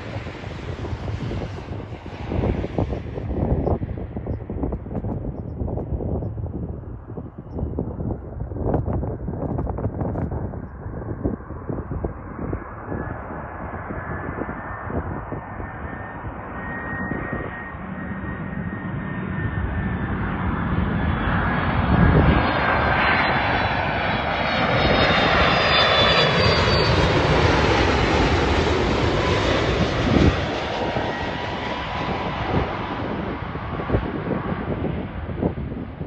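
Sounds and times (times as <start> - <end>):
high jet whine: 0.0 - 7.9, 12.4 - 36.0
jet engines overhead: 0.0 - 36.0
wind buffeting microphone: 0.0 - 36.0.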